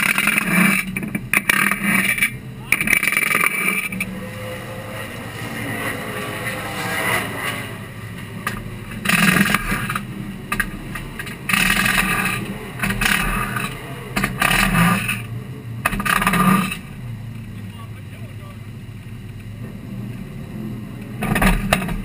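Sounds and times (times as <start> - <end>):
race car engine idling: 0.0 - 22.0.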